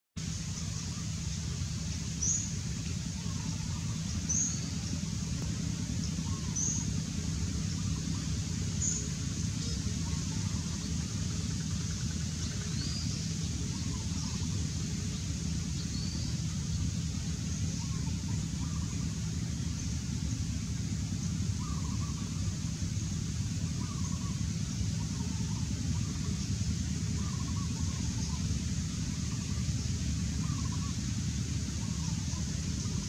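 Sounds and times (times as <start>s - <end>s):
songbird chip notes: 0.2s - 33.0s.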